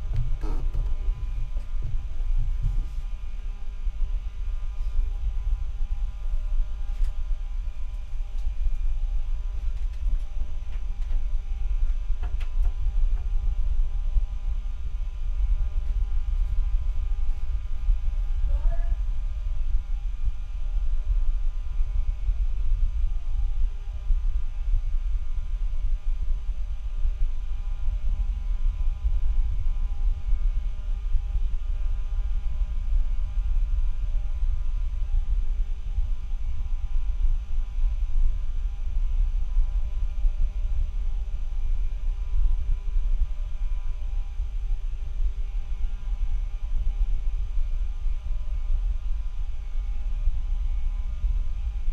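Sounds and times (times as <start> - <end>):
electrical hum: 0.0 - 51.9
faint whining tones: 0.0 - 51.9
fluttering low rumble: 0.0 - 51.9.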